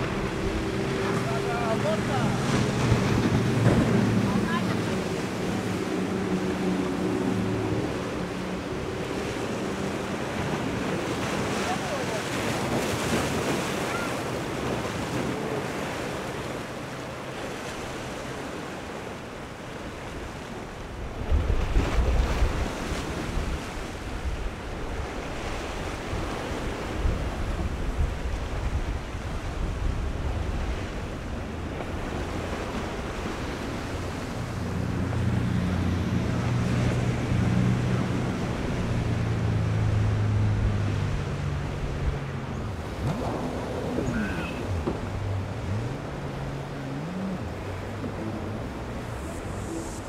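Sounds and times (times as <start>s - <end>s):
boat engines running: 0.0s - 50.0s
waves breaking: 0.0s - 50.0s.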